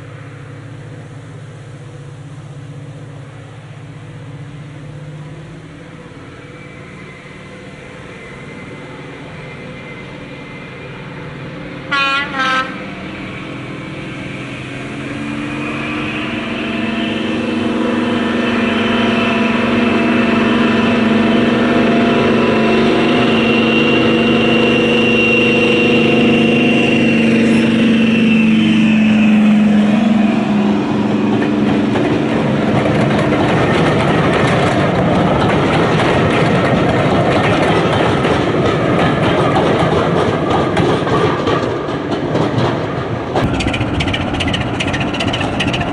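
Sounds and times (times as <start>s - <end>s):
diesel locomotive engine passing: 0.0s - 45.9s
train coaches rumbling on rails: 0.0s - 45.9s.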